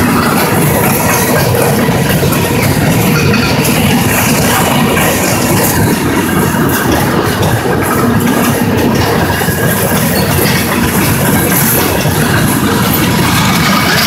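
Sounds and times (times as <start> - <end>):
steel wheels rumbling on rails: 0.0 - 14.0.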